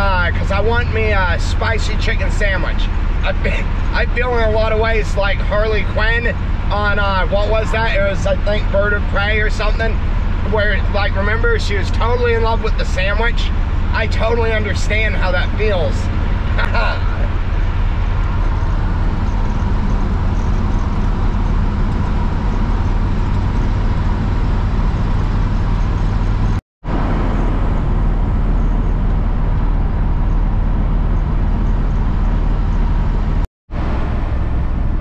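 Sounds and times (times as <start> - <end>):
road and tyre noise: 0.0 - 35.0
truck engine drone: 0.0 - 35.0.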